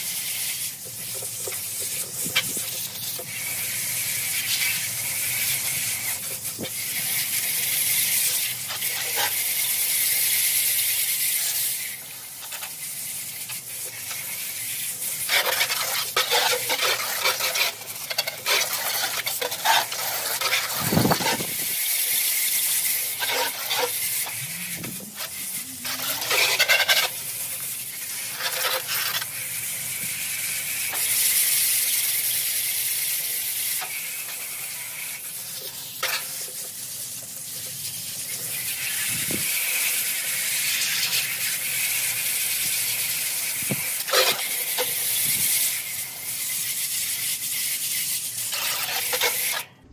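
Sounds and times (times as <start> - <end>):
water splashing on sheet metal: 0.0 - 49.6
garden hose jet hissing: 0.0 - 49.7.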